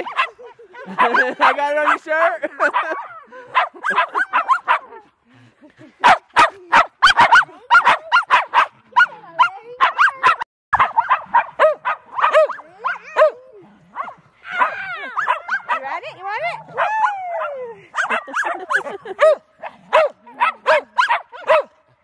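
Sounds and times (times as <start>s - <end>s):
dogs barking high-pitched: 0.0s - 5.0s, 6.0s - 21.8s.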